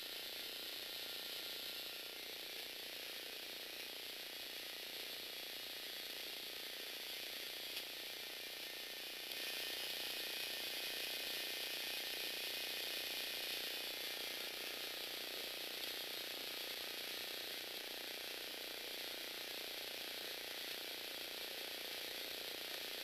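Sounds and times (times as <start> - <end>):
small electric motors whirring: 0.0 - 23.0.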